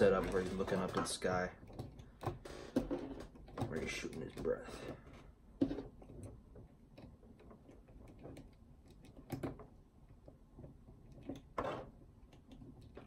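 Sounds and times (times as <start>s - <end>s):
faint plastic clicking and handling: 0.0s - 13.0s.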